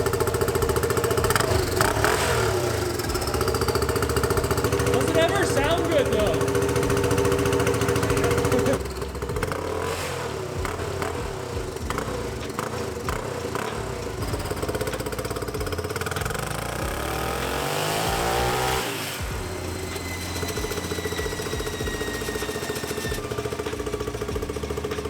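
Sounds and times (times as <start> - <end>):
engine clattering: 0.0 - 25.0
single-cylinder engine revving: 0.0 - 25.0.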